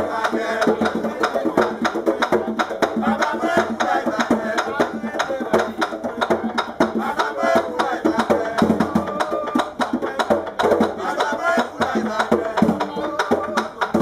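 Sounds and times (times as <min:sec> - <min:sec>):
hand drum beaten fast: 0:00.0 - 0:14.0
voices singing: 0:00.0 - 0:14.0.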